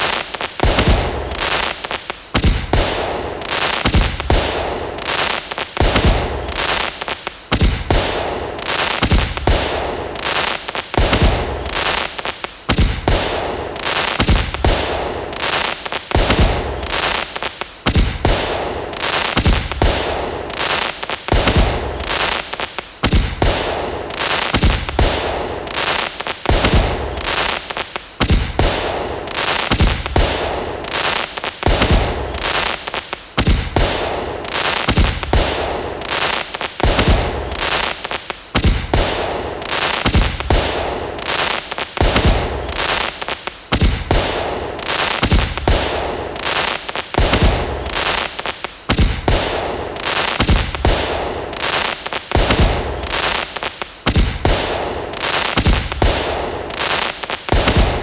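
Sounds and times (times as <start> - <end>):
fireworks bangs: 0.0 - 58.0
fireworks hissing and crackling: 0.0 - 58.0.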